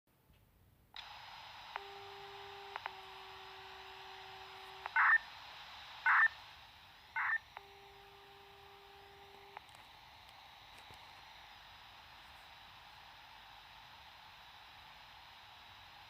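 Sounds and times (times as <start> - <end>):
radio carrier hiss: 1.0 - 16.0.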